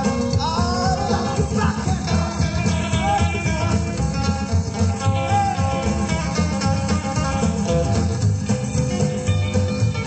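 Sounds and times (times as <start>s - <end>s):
rockabilly band with guitar: 0.0s - 10.0s.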